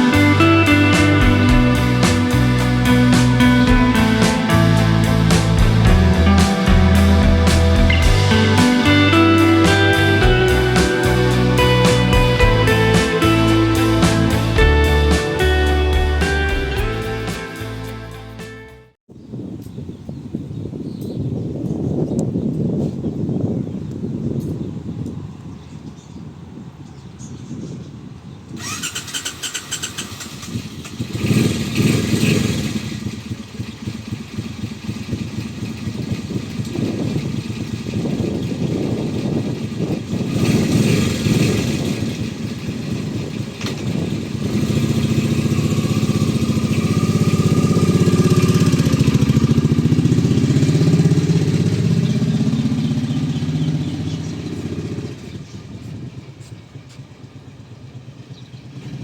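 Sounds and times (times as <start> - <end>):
motorcycle engine revving: 0.0 - 18.1, 28.6 - 59.0.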